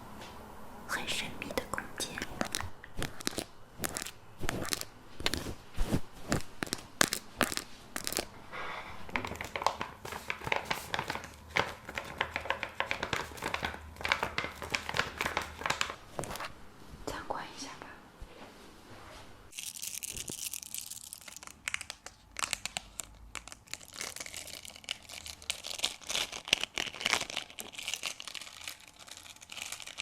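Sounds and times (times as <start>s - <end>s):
crinkling and crackling: 1.4s - 8.3s, 8.9s - 16.5s, 19.5s - 30.0s.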